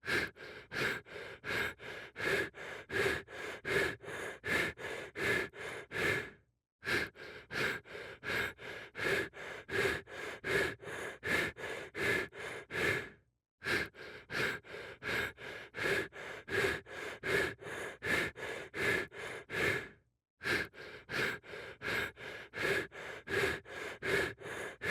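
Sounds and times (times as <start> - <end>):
rapid panting: 0.0 - 24.9.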